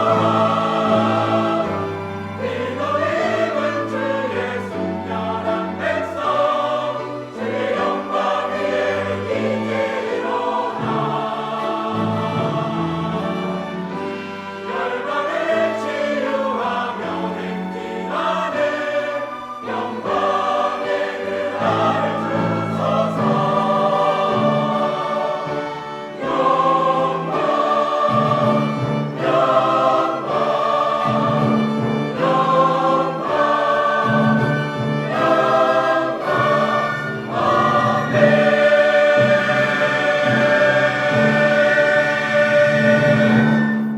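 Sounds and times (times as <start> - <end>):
church choir singing a hymn: 0.0 - 43.9.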